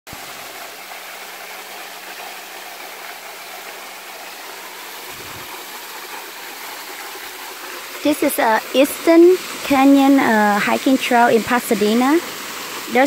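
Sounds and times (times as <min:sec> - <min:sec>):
waterfall splashing into pool: 0:00.1 - 0:13.0.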